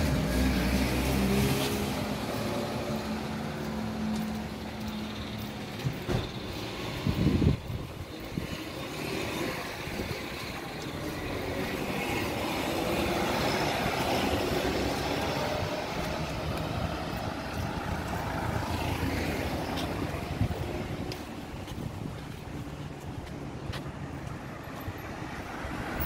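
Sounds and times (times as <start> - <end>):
vehicle passing on road: 0.0 - 26.0.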